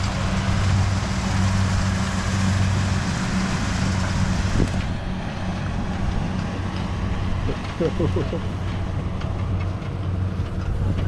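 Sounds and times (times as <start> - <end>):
farm machinery engine humming: 0.0 - 11.0.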